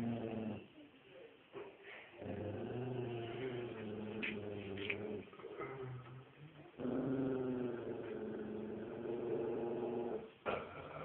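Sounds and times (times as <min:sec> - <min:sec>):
dog growling: 0:00.0 - 0:00.7, 0:02.2 - 0:06.1, 0:06.8 - 0:11.0.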